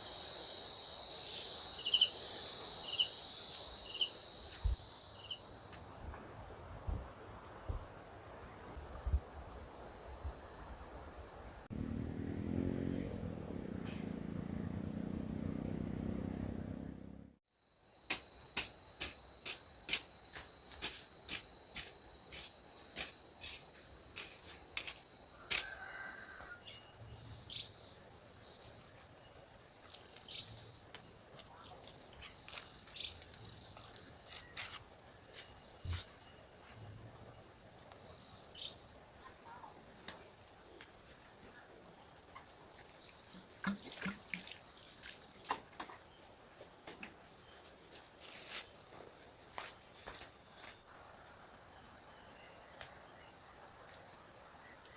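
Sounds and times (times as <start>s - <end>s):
high-pitched insect chorus: 0.0s - 11.7s, 17.6s - 54.9s.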